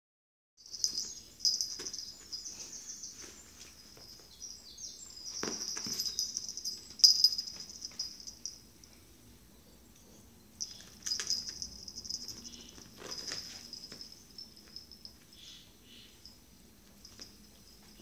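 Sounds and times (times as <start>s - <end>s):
collar tag jingling: 0.6s - 18.0s.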